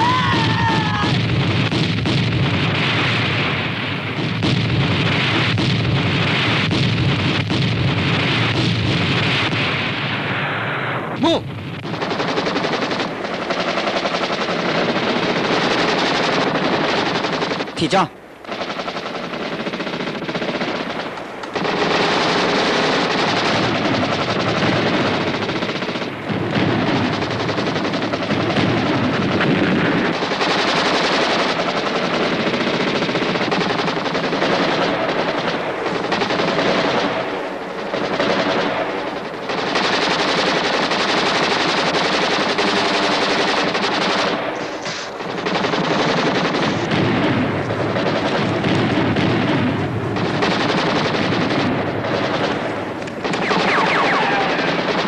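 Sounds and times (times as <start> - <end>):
machine-gun and rifle fire: 0.0 - 55.0.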